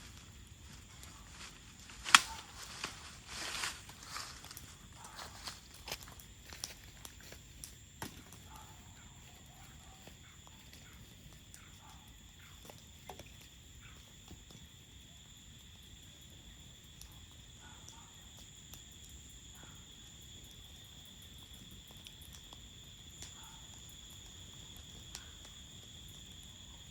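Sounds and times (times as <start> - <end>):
campfire crackling and popping: 0.0 - 17.6, 18.2 - 26.9
crickets trilling: 0.0 - 26.9.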